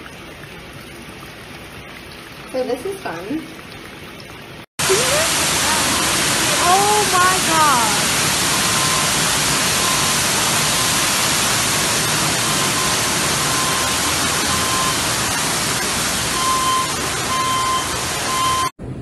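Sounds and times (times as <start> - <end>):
water gushing through ceiling: 0.0 - 18.7.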